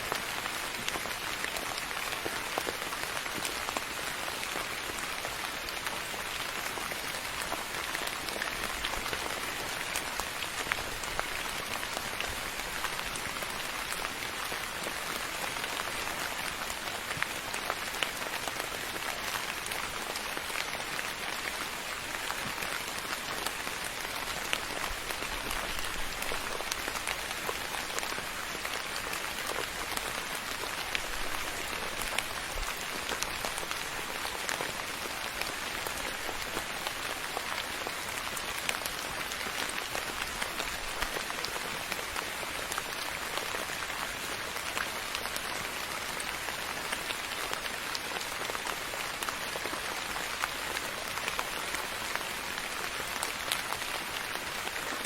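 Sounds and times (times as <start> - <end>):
soft rain on a surface: 0.0 - 55.0.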